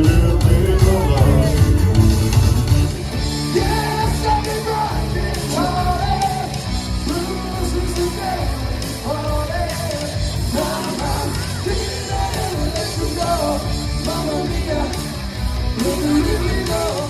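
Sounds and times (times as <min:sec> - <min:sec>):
person singing: 0:00.0 - 0:02.3, 0:03.3 - 0:17.0
live rock band playing: 0:00.0 - 0:17.0.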